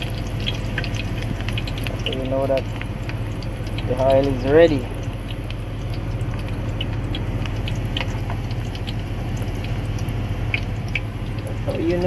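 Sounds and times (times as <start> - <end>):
low hum: 0.0 - 12.0
oil sizzling and popping: 0.0 - 12.0.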